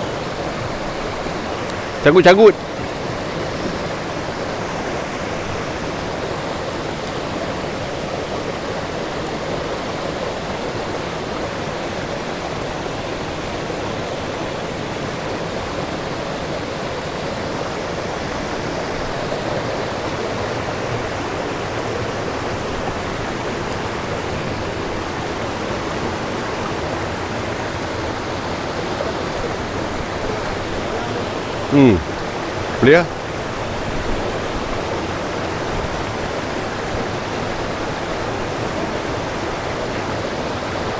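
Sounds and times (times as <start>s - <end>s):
stream rapid rushing: 0.0s - 40.9s.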